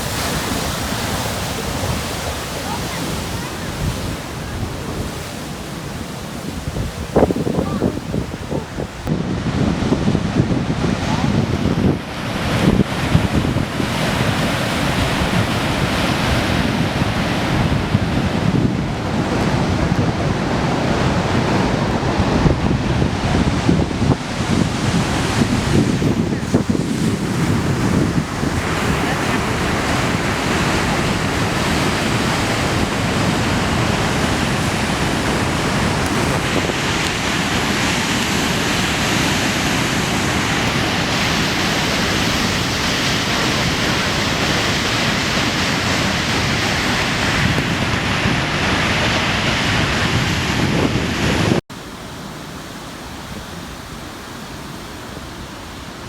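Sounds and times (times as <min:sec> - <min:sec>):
wind buffeting microphone: 0:00.0 - 0:51.6
steady rush of surf: 0:00.0 - 0:56.0
waves crashing on rocky shore: 0:00.0 - 0:56.0.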